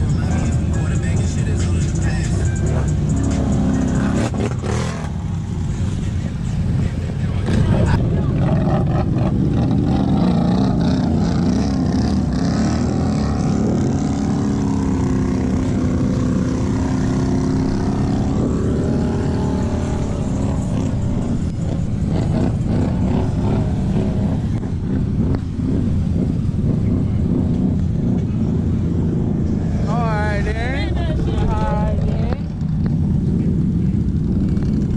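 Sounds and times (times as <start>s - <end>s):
vehicle engine revving: 0.0s - 34.9s.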